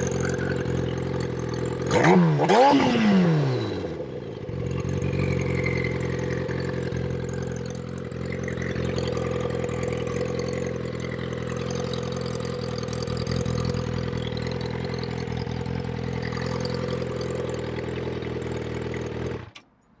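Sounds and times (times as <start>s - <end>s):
motorcycle engine idling: 0.0s - 19.7s.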